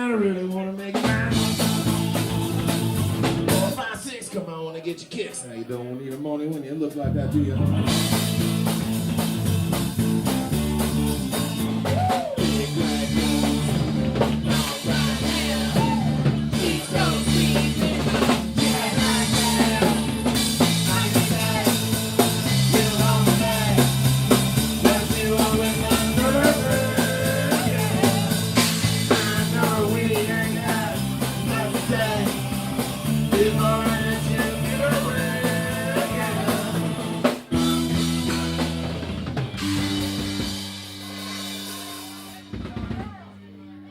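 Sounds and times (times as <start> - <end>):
live rock band playing: 0.0 - 5.2, 6.1 - 43.9
drum kit beat: 0.0 - 43.4
wavering lead guitar melody: 7.1 - 43.9.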